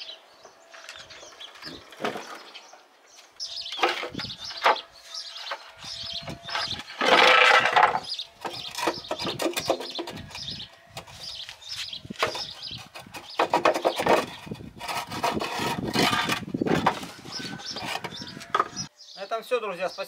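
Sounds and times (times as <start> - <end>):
wooden scraping and knocking: 0.7 - 2.7, 3.7 - 18.9.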